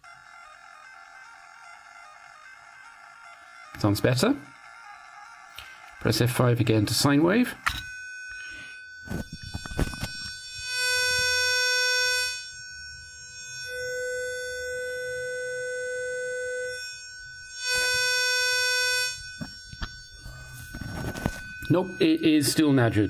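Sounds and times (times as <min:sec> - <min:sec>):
buzzy test tone: 0:00.0 - 0:23.0
pure sine tone: 0:00.0 - 0:23.0.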